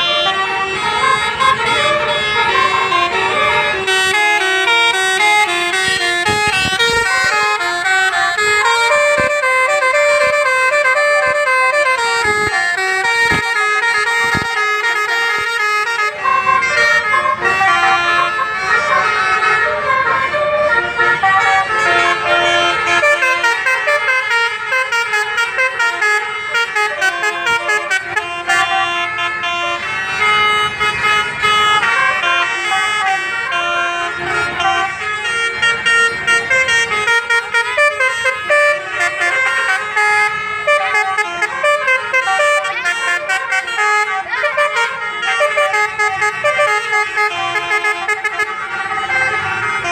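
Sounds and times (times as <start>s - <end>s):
low vehicle rumble: 0.0s - 49.9s
multi-tone bus horn melody: 0.0s - 49.9s.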